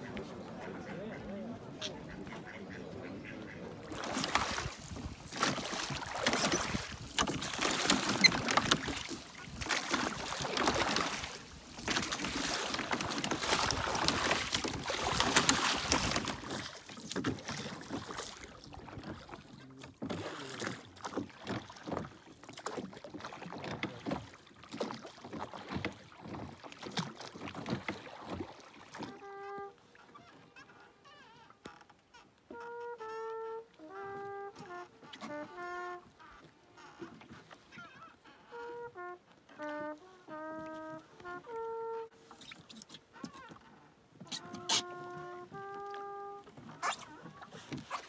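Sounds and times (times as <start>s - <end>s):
rushing water: 0.0s - 30.3s, 33.6s - 48.0s.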